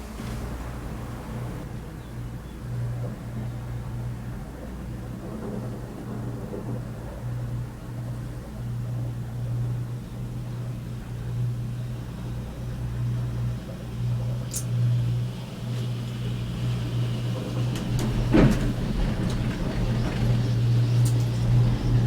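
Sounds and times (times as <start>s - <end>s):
cable car humming and rumbling: 0.0s - 22.0s.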